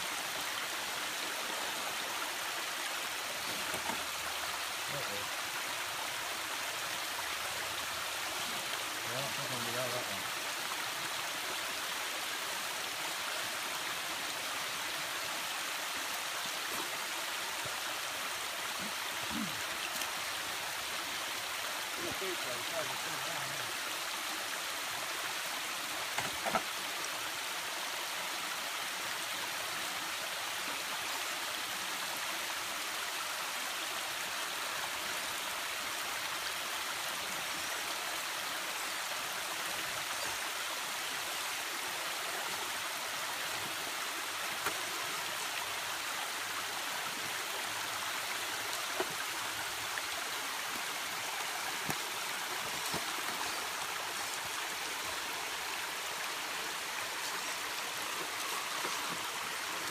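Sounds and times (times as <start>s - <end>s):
waterfall and stream over rocks: 0.0s - 59.9s.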